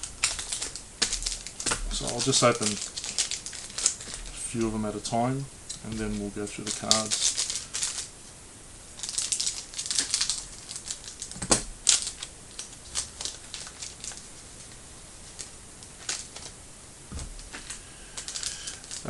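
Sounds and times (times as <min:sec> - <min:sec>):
wrapper crinkling and tearing: 0:00.0 - 0:04.7, 0:05.7 - 0:08.1, 0:09.0 - 0:16.5, 0:17.4 - 0:19.0
small crackles: 0:00.0 - 0:19.0.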